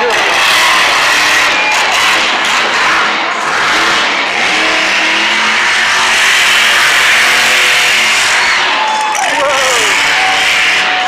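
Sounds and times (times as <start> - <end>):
truck engine revving loud: 0.0 - 11.0.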